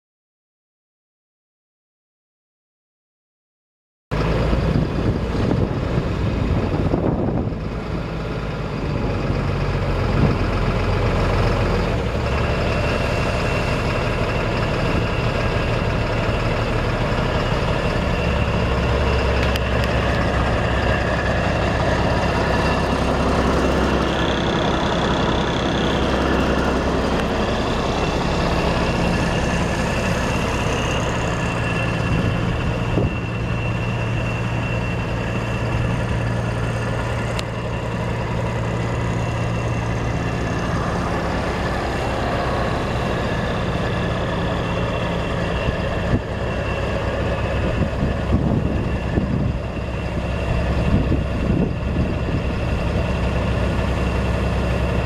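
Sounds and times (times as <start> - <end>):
diesel truck engine running: 4.1 - 55.0.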